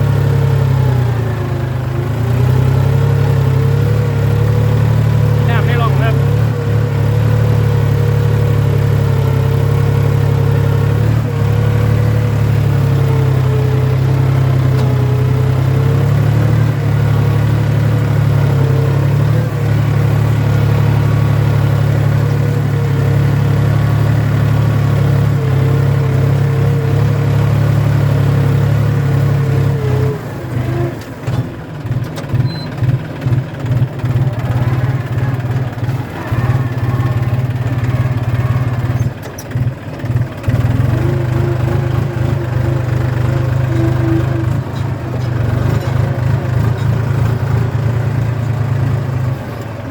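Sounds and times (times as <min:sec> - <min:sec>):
tractor engine under load: 0:00.0 - 0:49.9.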